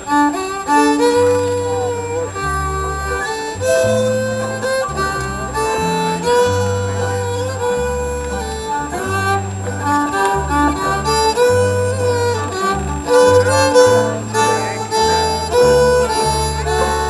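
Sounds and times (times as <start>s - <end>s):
bass line: 0.0s - 17.0s
fiddles playing melody: 0.0s - 17.0s
strummed strings: 0.0s - 17.0s.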